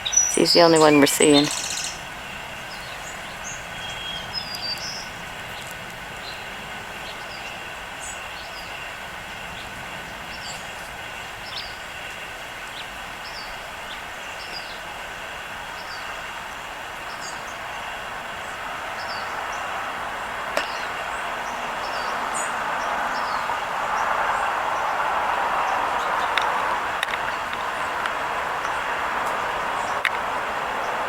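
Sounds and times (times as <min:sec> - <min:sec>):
road traffic noise: 0:00.0 - 0:31.0
small birds chirping: 0:00.0 - 0:31.0.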